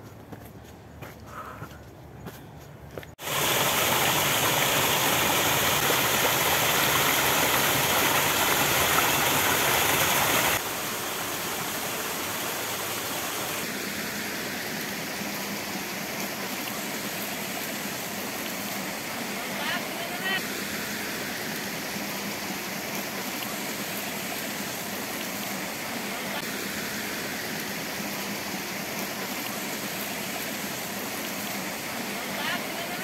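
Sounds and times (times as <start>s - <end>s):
rushing water: 3.2s - 33.0s.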